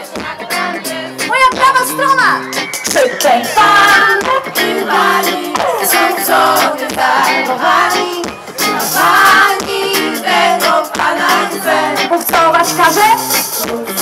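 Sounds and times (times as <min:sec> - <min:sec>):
live band playing with singing: 0:00.0 - 0:14.0.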